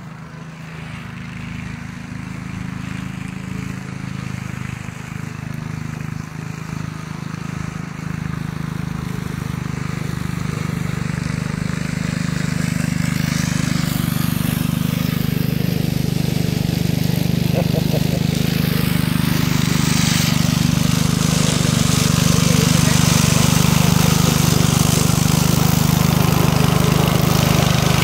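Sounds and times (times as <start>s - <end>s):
lawn mower engine: 0.0s - 28.0s.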